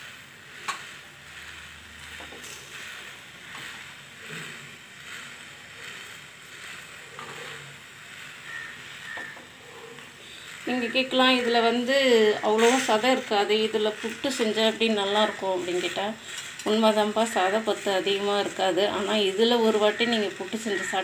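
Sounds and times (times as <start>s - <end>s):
water heating hiss: 0.0s - 21.0s.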